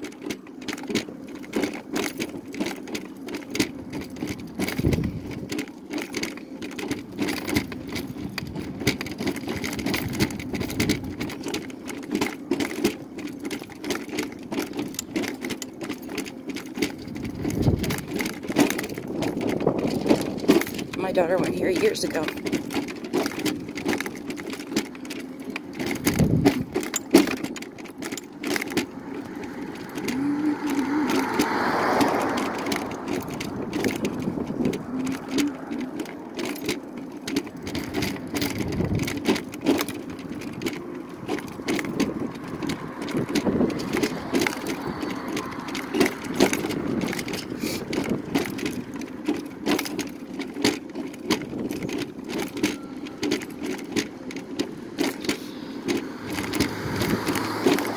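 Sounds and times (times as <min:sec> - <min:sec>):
mobility scooter motor hum: 0:00.0 - 0:57.9
rattles and clunks over joints: 0:00.0 - 0:57.9.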